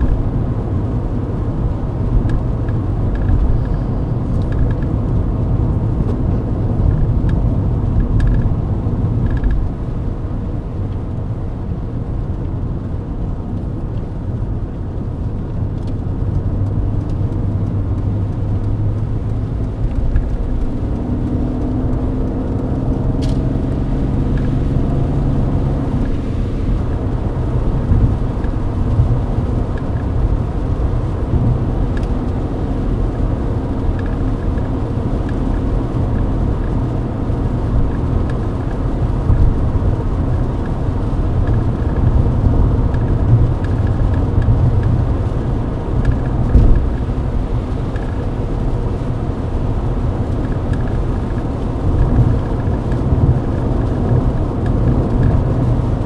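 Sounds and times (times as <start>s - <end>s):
car engine drone: 0.0s - 56.0s
tyres on wet road: 0.0s - 56.0s.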